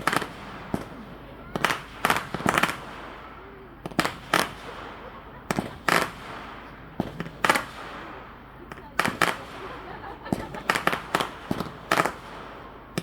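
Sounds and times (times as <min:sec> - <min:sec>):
firework shells bursting: 0:00.0 - 0:13.0.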